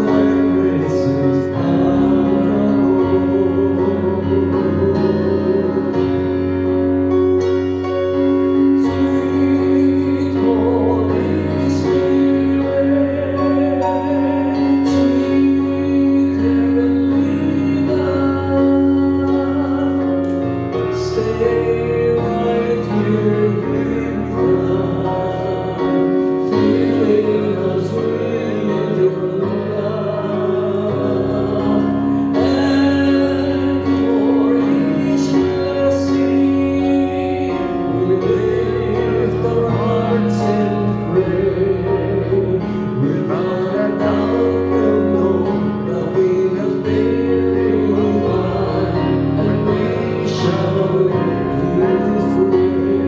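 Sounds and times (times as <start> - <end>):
keyboard accompaniment: 0.0 - 53.0.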